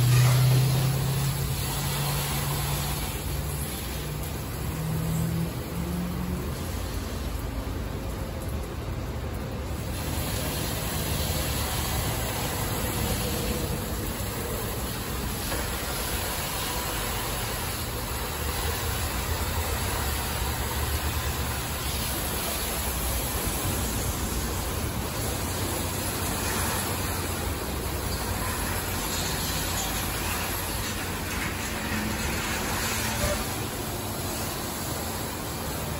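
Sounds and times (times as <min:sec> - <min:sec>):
car wash water spray: 0:00.0 - 0:35.9.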